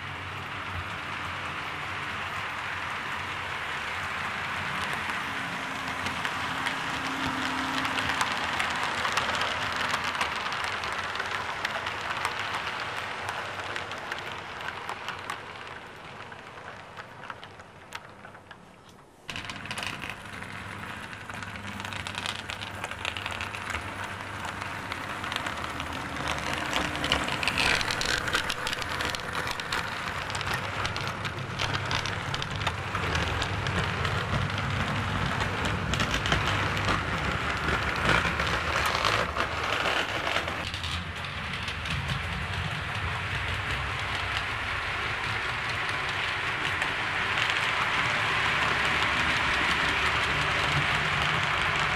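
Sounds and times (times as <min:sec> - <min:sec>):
small wheels rattling on rails: 0:00.0 - 0:51.9.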